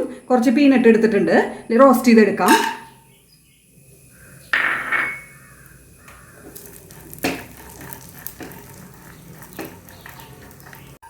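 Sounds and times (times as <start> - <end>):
nuts sizzling in a pan: 1.5 - 11.0.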